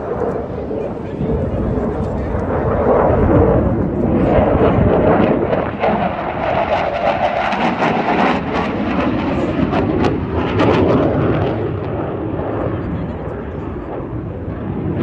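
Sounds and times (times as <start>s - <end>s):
fighter jet engine roar: 0.0s - 15.0s.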